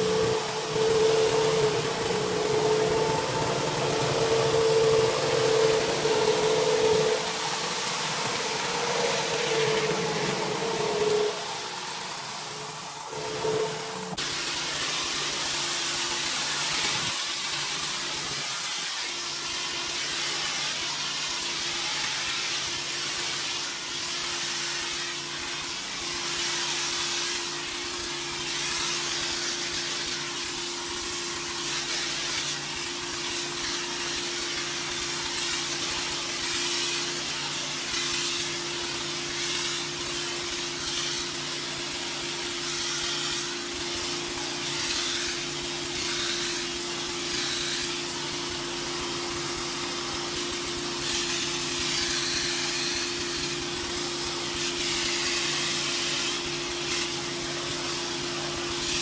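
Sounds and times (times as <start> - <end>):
pressure washer machine hum: 0.0 - 59.0
water spray hissing on concrete: 0.0 - 59.0.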